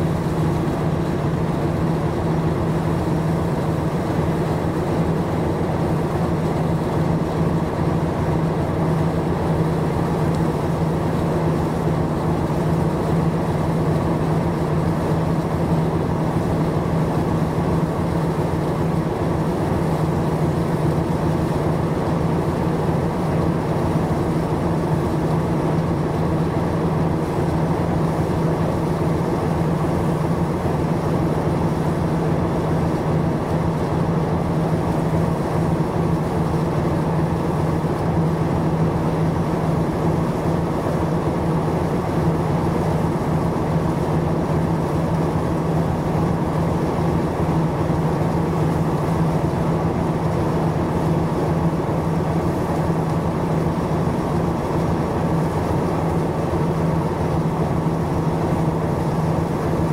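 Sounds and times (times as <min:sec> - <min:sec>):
boat engine humming: 0:00.0 - 0:59.9
water wash: 0:00.0 - 0:59.9.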